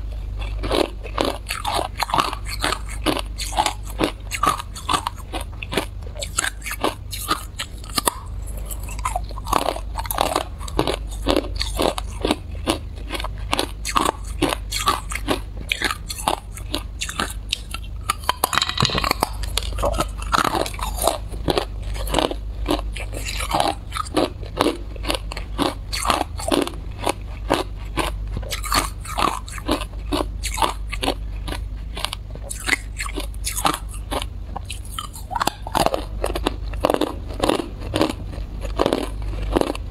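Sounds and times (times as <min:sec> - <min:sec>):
low steady hum: 0:00.0 - 0:39.9
ice crunching between teeth: 0:00.4 - 0:39.9.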